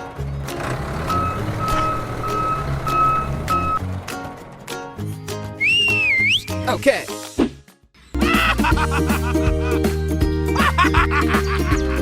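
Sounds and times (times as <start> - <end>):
background music with bass line: 1.1 - 12.0.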